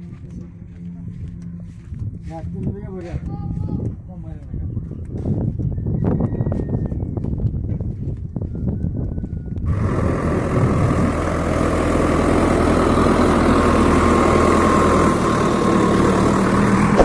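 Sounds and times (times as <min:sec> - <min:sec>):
diesel tractor engine running: 0:00.0 - 0:05.6, 0:07.7 - 0:17.0.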